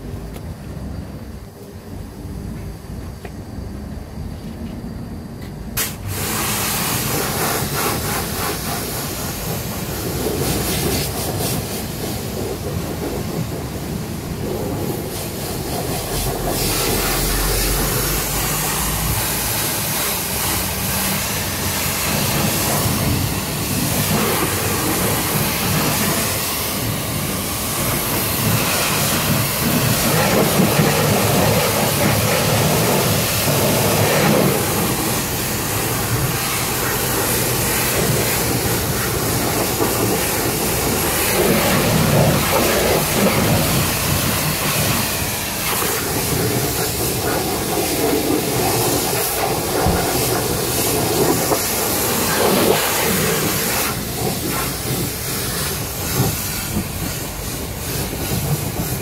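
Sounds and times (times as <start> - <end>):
pressure washer spraying water: 5.8 - 59.0.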